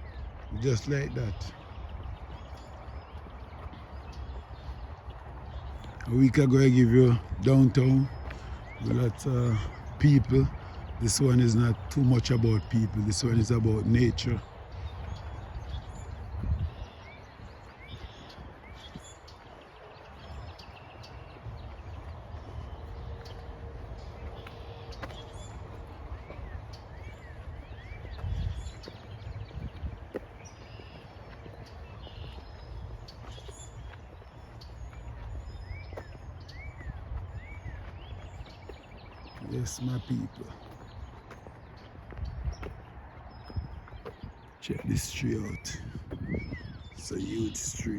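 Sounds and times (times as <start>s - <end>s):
faint birds calling: 0.0s - 47.9s
low wind rumble: 0.0s - 47.9s.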